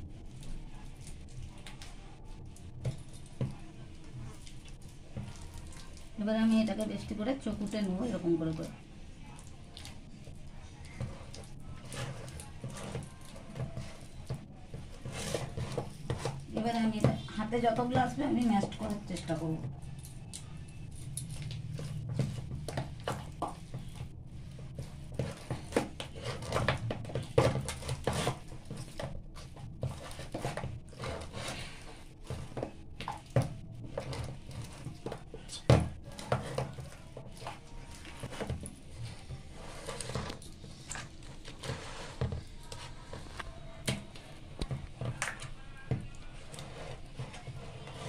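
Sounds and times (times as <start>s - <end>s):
hands squelching dough: 0.0s - 48.0s.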